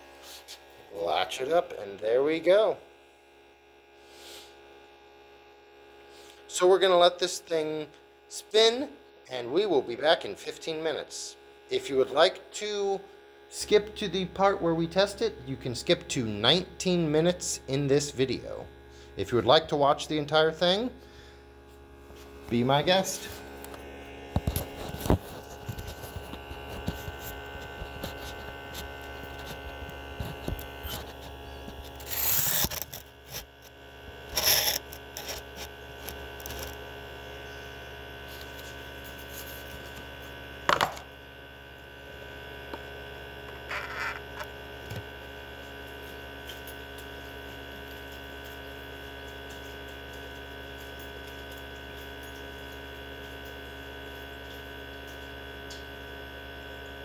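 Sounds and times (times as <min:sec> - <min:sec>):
centrifuge motor humming: 0:09.4 - 0:57.0.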